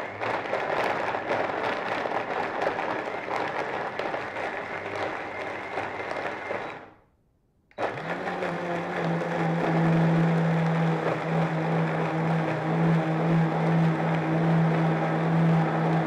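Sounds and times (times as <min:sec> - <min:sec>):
blender running: 0:00.0 - 0:07.0, 0:07.7 - 0:16.0.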